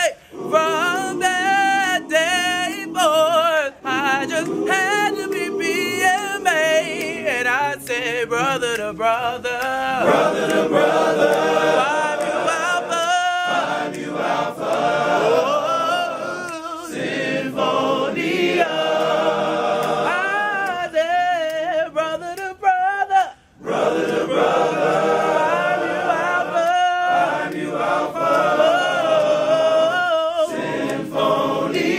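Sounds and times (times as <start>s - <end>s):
male vocal group singing a cappella: 0.0s - 31.9s.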